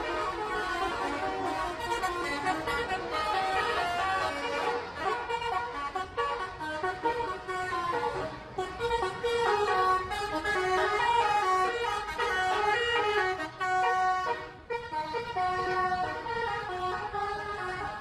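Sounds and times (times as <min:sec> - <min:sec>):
bus horns playing a tune: 0:00.0 - 0:18.0.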